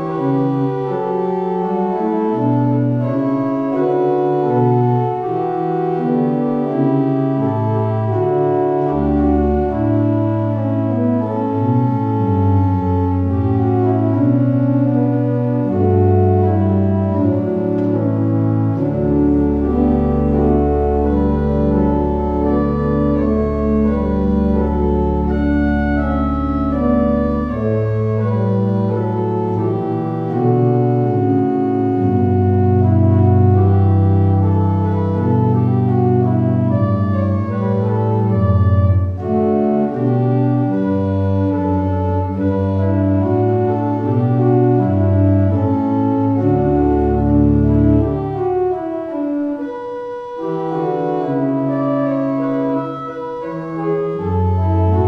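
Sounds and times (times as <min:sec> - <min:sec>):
organ chords: 0:00.0 - 0:55.0.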